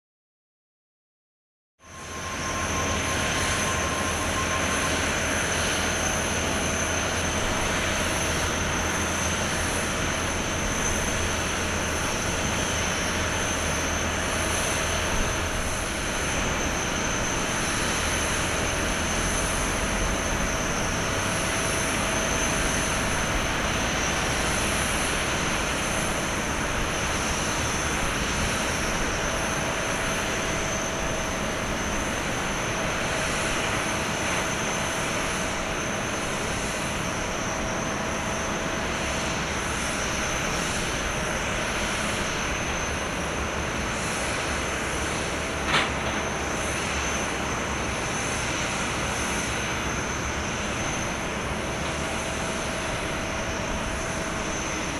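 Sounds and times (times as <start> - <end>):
jet turbine rush and whine: 1.8 - 54.9.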